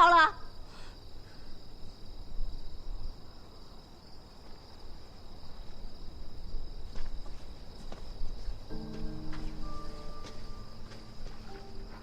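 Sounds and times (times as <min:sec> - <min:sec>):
crickets chirring: 0:00.0 - 0:12.0
low outdoor night rumble: 0:00.0 - 0:12.0.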